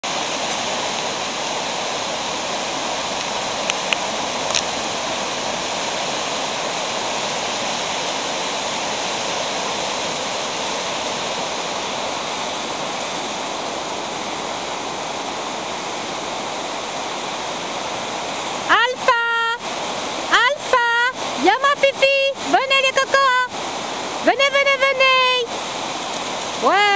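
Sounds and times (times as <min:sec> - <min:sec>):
river rushing over rapids: 0:00.0 - 0:26.9.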